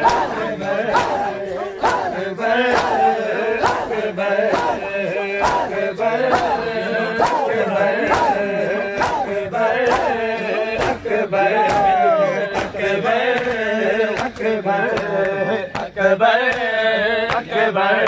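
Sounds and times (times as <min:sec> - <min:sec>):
hands slapping chests: 0:00.0 - 0:17.5
men chanting in unison: 0:00.0 - 0:18.0.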